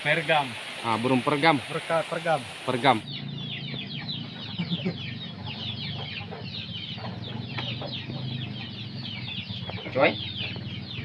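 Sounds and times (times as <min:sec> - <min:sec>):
small birds peeping: 0:00.0 - 0:11.0.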